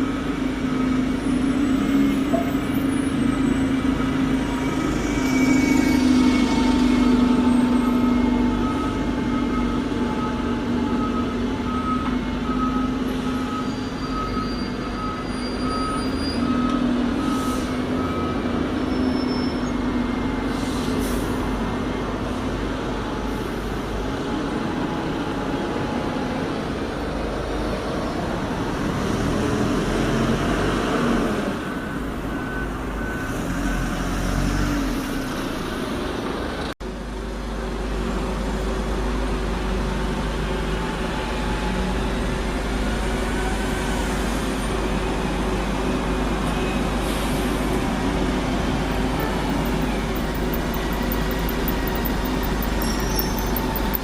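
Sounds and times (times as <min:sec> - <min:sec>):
heavy diesel vehicles passing: 0:00.0 - 0:54.0.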